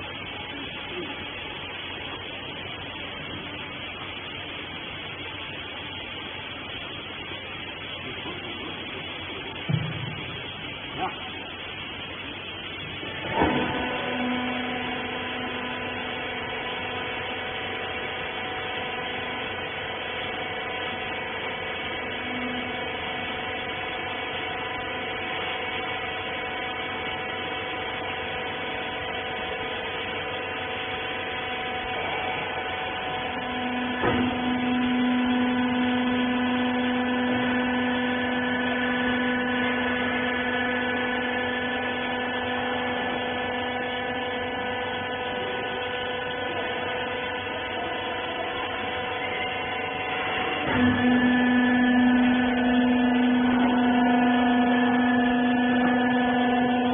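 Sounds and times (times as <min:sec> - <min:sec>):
hydraulic baler whining hum: 0:00.0 - 0:56.9.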